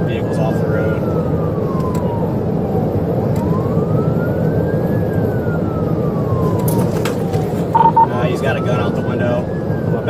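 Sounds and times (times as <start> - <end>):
faint police siren wailing: 0.0 - 10.0.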